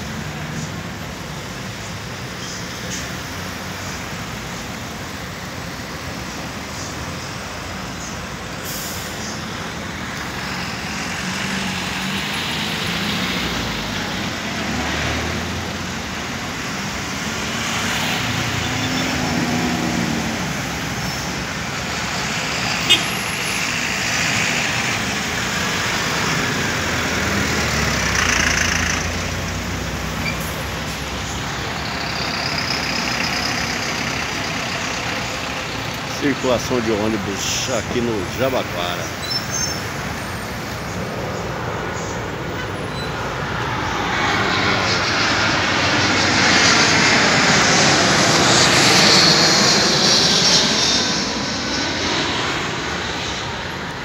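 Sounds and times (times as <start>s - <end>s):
diesel bus engines running: 0.0s - 52.7s
cars passing: 0.0s - 54.0s.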